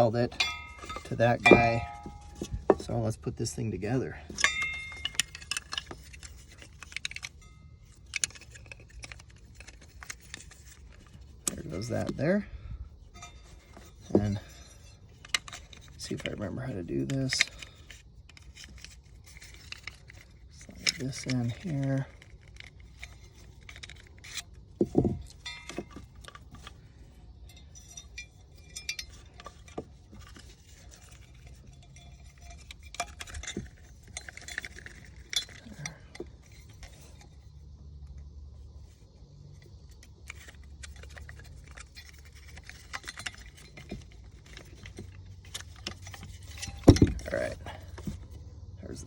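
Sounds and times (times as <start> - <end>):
faint low hum: 0.0 - 49.0
small parts clicking and clinking: 0.0 - 49.0.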